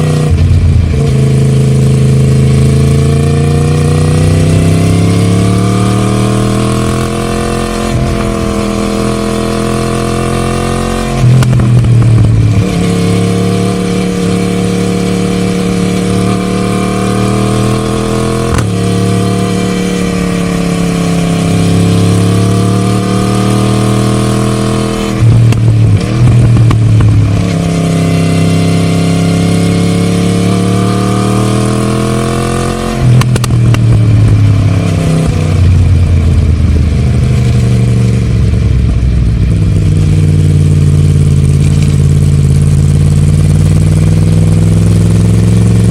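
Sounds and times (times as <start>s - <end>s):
motorcycle exhaust while riding: 0.0s - 45.9s.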